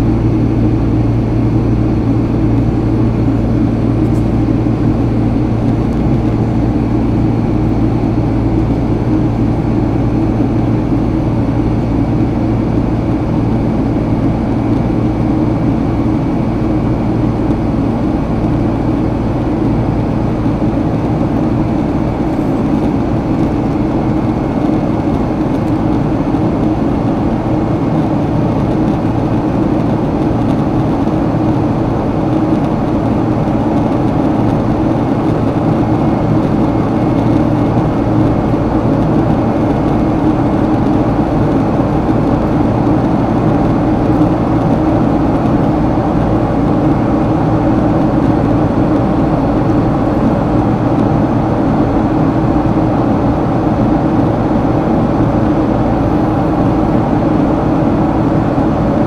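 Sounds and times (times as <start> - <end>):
jet engine cabin drone: 0.0 - 59.0.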